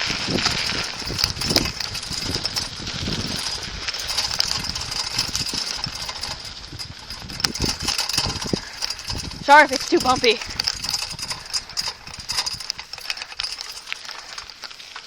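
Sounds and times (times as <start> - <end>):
bicycle rumbling over rocky ground: 0.0 - 15.0
bike knocks and rattles: 0.0 - 15.0.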